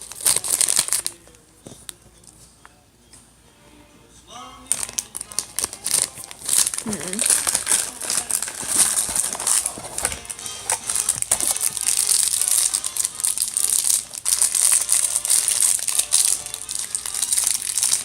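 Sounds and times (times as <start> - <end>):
plastic packaging crinkling: 0.0 - 1.4, 4.7 - 18.0.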